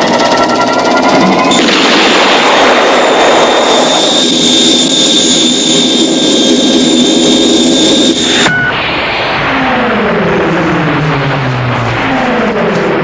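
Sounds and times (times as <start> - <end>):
rushing whoosh with high whine: 0.4 - 13.0.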